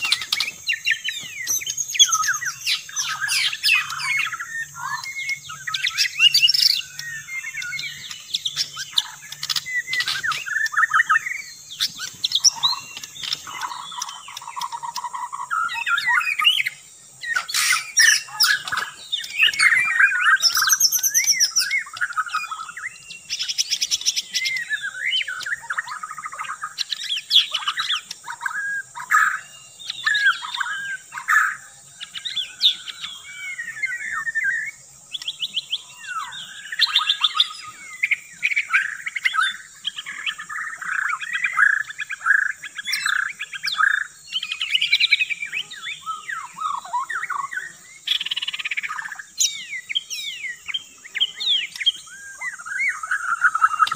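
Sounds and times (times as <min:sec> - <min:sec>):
bird singing varied song: 0:00.0 - 0:53.9.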